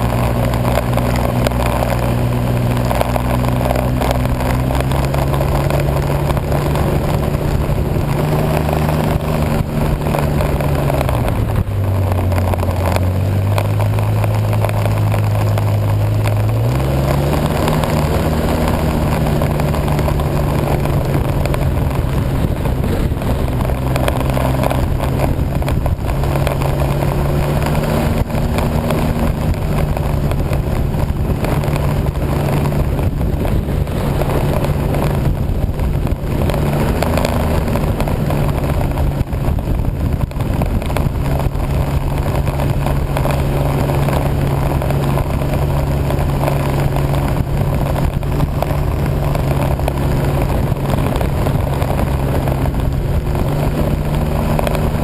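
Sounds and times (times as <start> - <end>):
vehicle engine running: 0.0 - 55.0
wind noise on microphone: 0.0 - 55.0.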